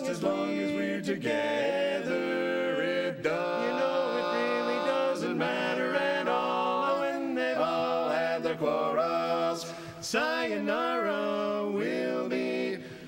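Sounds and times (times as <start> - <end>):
male quartet singing a cappella: 0.0 - 13.0.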